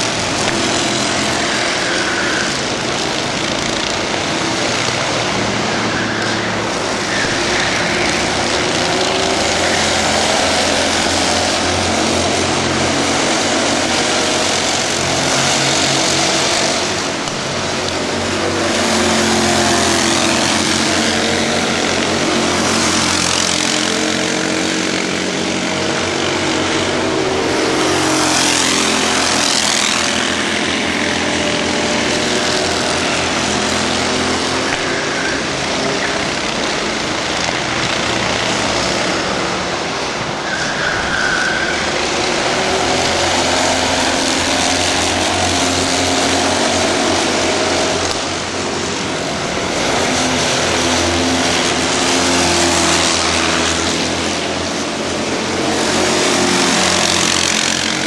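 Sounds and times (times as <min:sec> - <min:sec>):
kart engines buzzing: 0:00.0 - 0:58.0.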